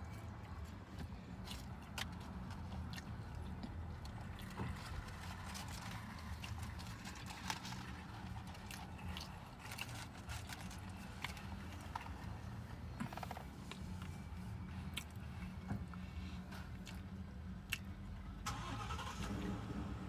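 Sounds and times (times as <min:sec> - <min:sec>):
chewing and biting mouth sounds: 0:00.0 - 0:18.1.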